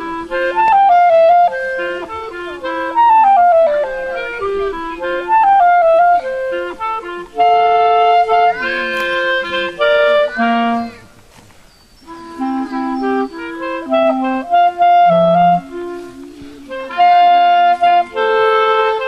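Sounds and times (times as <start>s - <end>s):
wind instrument melody: 0.0s - 11.2s, 11.9s - 19.0s.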